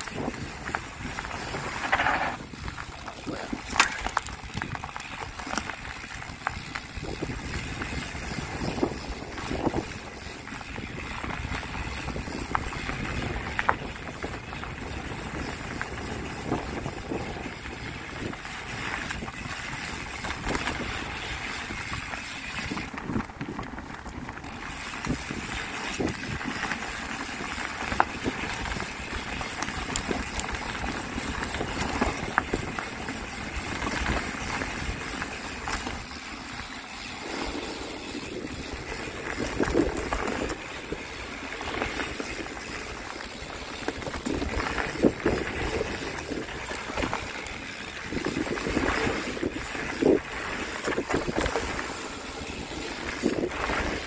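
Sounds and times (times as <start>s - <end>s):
bike rattling over bumps: 0.0s - 54.0s
wind and tyre noise: 0.0s - 54.0s.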